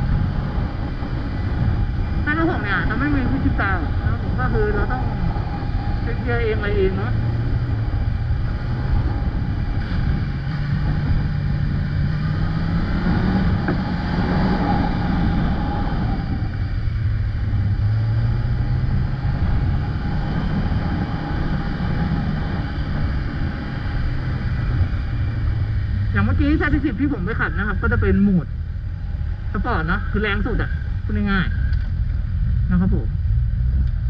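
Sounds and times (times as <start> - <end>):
motorcycle engine running: 0.0 - 34.0
wind rush: 0.0 - 34.0.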